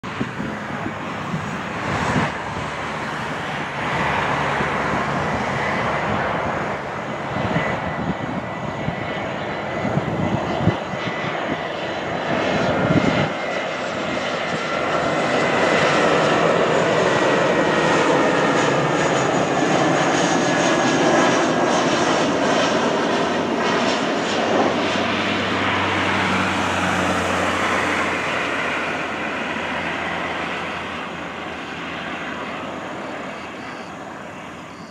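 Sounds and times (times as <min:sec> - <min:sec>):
jet engines with high whine: 0:00.0 - 0:34.9.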